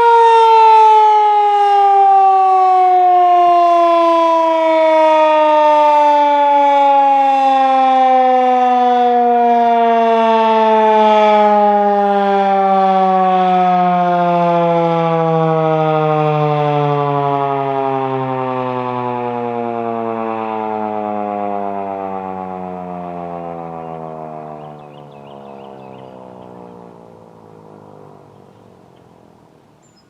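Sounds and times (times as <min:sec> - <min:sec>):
siren winding down: 0:00.0 - 0:29.0.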